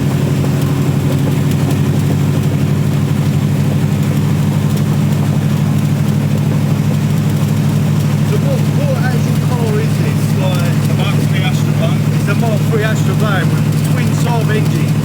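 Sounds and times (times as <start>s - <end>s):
engines idling with pulsing beat: 0.0s - 15.0s.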